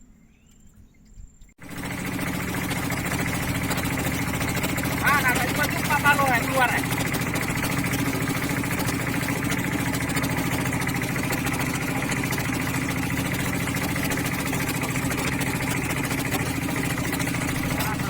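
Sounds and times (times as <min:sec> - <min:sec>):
boat engine running steadily: 0:01.6 - 0:18.0.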